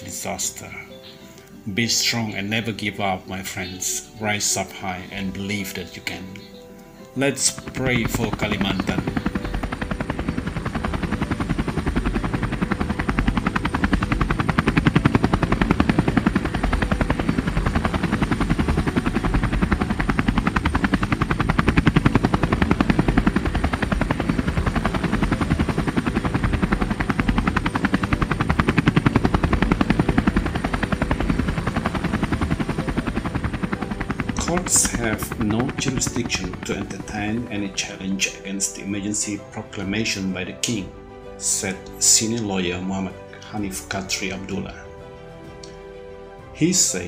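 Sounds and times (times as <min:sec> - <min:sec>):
helicopter rotor blades chopping: 0:04.5 - 0:45.8.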